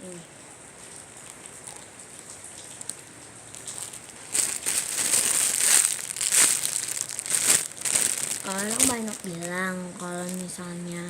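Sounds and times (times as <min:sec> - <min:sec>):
plastic wrapping crinkling: 0:00.1 - 0:11.0.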